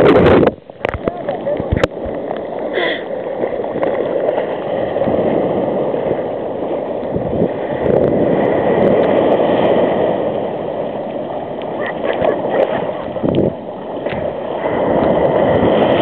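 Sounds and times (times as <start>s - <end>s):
legs wading through water: 0.0s - 16.0s
surf foaming and sloshing: 0.0s - 16.0s.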